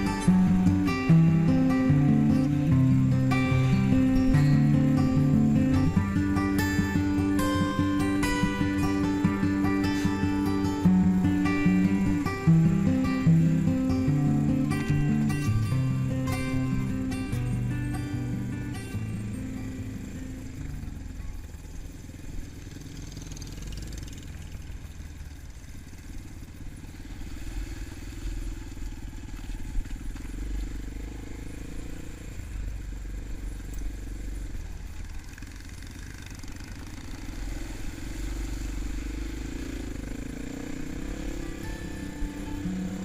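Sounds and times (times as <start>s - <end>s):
motorcycle engine rumbling: 0.0s - 43.0s.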